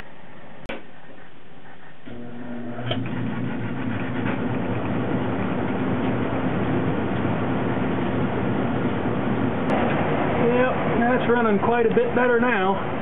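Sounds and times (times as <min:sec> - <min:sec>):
furnace blower running: 0:00.4 - 0:13.0.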